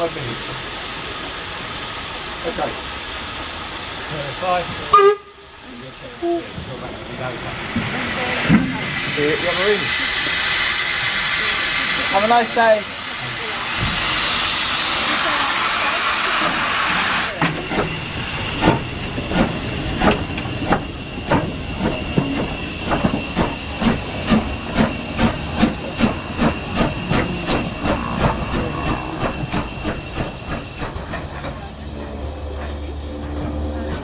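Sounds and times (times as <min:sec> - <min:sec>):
steam hissing: 0:00.0 - 0:34.0
steam locomotive chuffing: 0:00.0 - 0:34.0.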